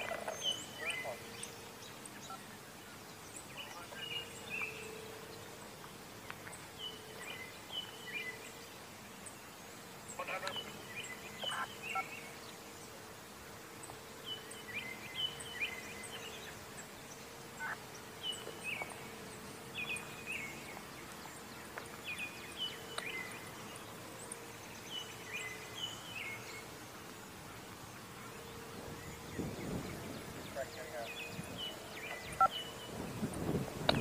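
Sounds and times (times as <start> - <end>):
faint steady tone: 0.0 - 34.0
songbird singing: 0.0 - 34.0.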